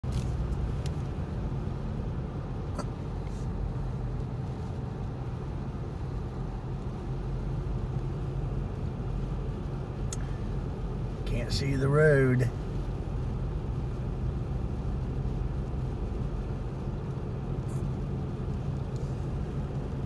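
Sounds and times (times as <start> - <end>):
car road rumble: 0.0 - 20.0.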